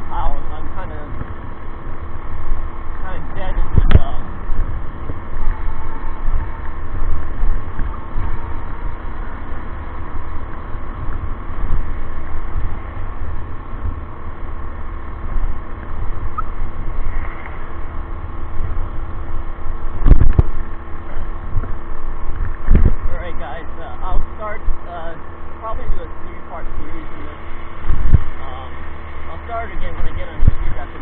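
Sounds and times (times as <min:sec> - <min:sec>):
machinery hum: 0:00.0 - 0:31.0
wind rushing over microphone: 0:00.0 - 0:31.0.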